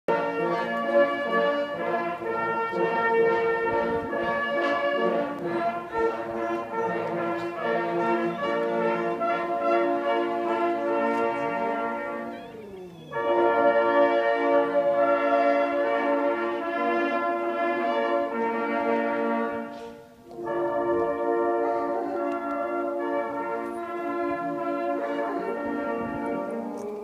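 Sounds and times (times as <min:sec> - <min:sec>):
hunting horns playing fanfare: 0:00.1 - 0:27.0.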